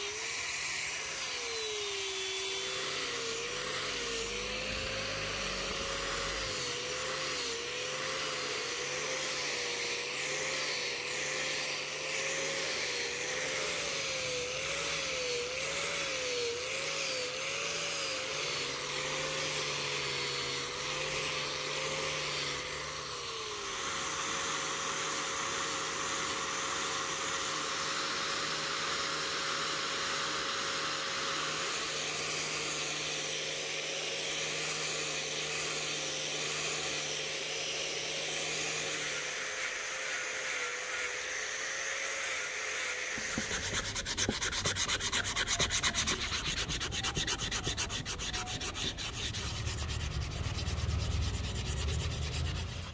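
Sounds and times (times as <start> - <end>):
angle grinder sanding wood: 0.0 - 52.9.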